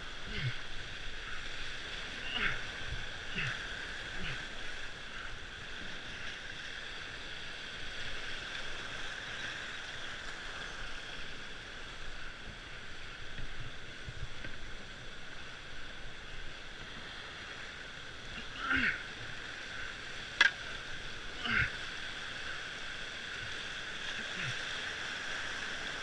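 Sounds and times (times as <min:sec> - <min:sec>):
whitewater rapids rushing: 0:00.0 - 0:12.9, 0:14.8 - 0:26.0.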